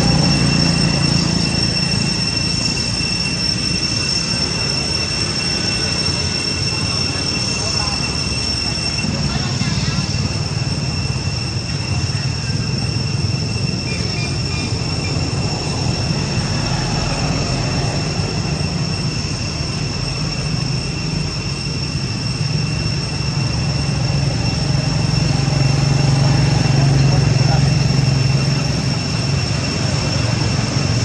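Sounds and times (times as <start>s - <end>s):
continuous high-pitched whine: 0.0s - 31.0s.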